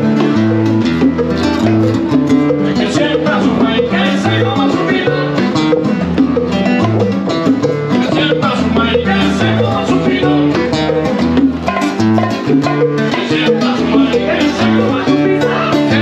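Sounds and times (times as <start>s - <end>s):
acoustic guitar: 0.0s - 16.0s
conga drums: 0.0s - 16.0s.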